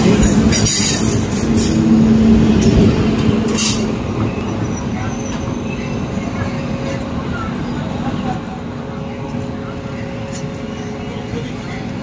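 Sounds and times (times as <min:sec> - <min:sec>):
electric locomotive hum: 0:00.0 - 0:12.0
wheels rumbling on rails: 0:00.0 - 0:12.0.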